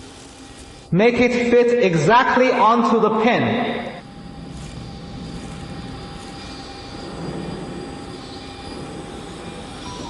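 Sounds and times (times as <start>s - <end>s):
faint steady whine: 0.0s - 10.0s
machine hum: 0.0s - 10.0s.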